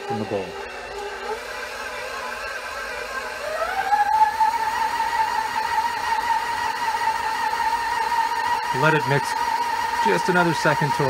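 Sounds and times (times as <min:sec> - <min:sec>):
stand mixer motor whining: 0:00.0 - 0:11.0.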